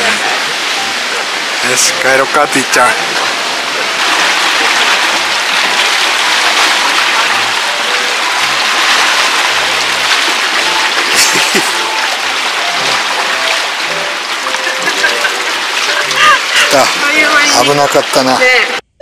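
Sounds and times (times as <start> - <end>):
seawater rushing over rocks: 0.0 - 18.8.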